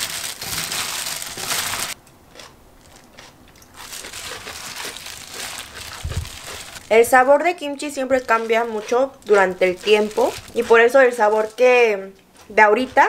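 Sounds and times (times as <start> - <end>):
plastic gloves rustling: 0.0 - 2.0, 3.7 - 13.0
wet crunching of radish cubes: 0.0 - 13.0.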